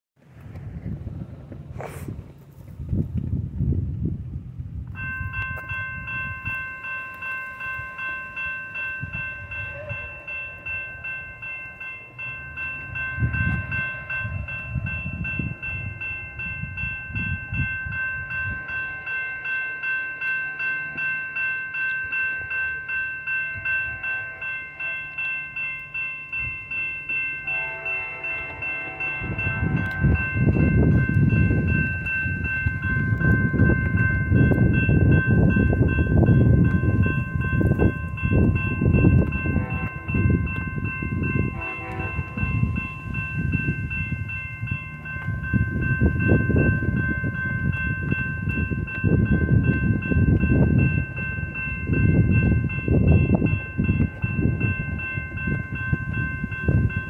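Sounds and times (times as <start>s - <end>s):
railroad crossing bell ringing: 4.7s - 57.0s.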